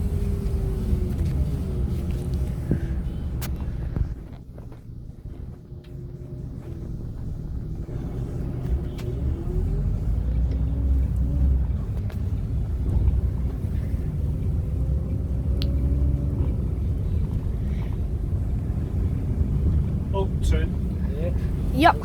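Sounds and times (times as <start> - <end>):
coach engine droning: 0.0 - 22.0.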